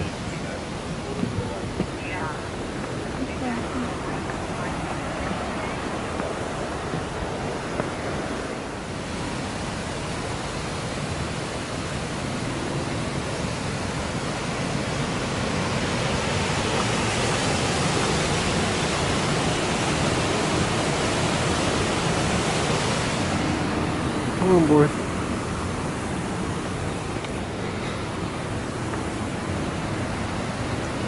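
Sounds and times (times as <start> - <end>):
whitewater rushing down rocky gorge: 0.0 - 31.0.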